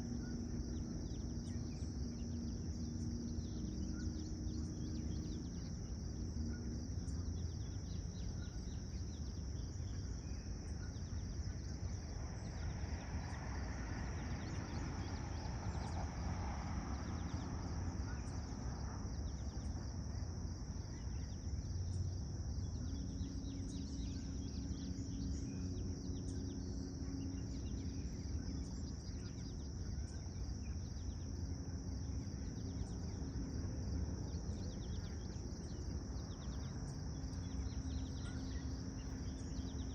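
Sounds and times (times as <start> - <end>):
insects droning: 0.0 - 39.9
low background rumble: 0.0 - 39.9.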